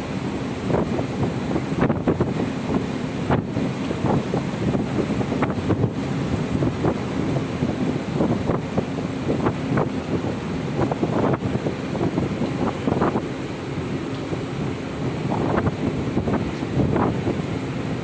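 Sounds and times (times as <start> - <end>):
boat rumbling at sea: 0.0 - 18.0
wind buffeting microphone: 0.0 - 18.0.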